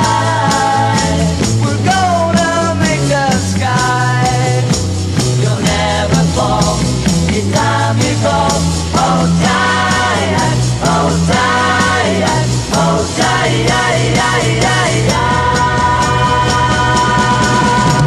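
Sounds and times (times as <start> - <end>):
rock music with drums and bass: 0.0 - 18.0.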